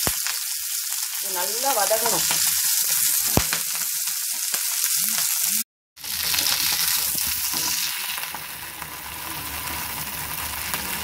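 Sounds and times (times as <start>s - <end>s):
greens sizzling in hot oil: 0.0s - 11.0s.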